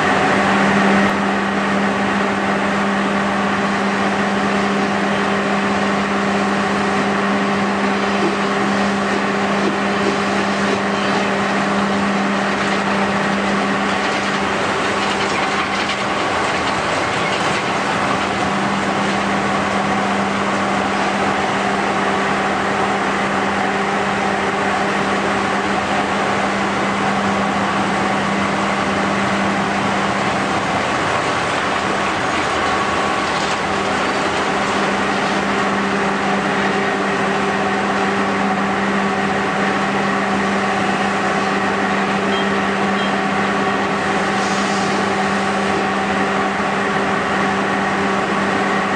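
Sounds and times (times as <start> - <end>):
industrial machinery drone: 0.0 - 48.9.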